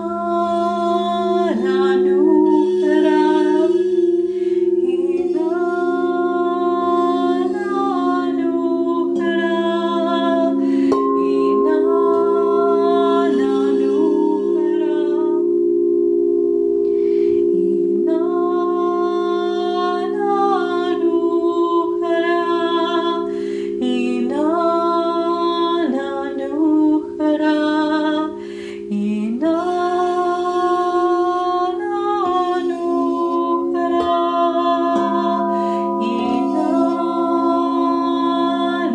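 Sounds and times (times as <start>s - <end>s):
woman singing wordless melody: 0.0s - 15.6s, 16.9s - 38.9s
singing bowls ringing: 0.0s - 38.9s.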